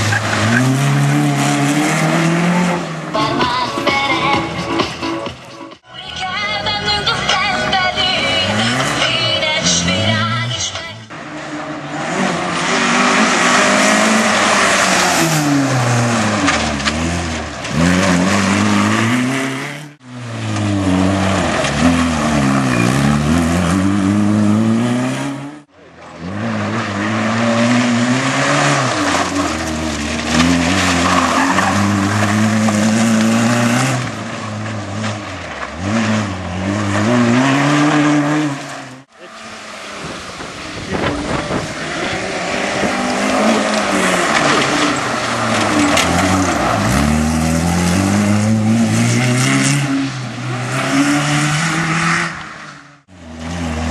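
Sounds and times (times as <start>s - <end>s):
rally car engine revving: 0.0s - 5.5s, 6.9s - 53.9s.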